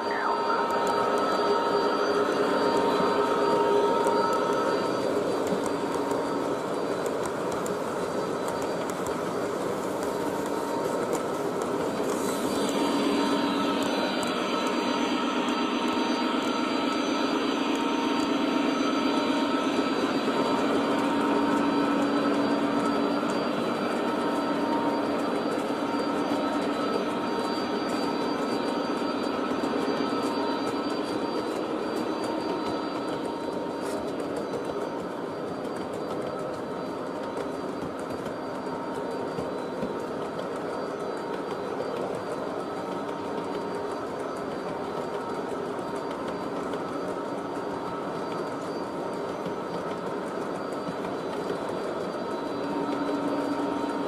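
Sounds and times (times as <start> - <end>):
model train rumbling on rails: 0.0 - 54.0.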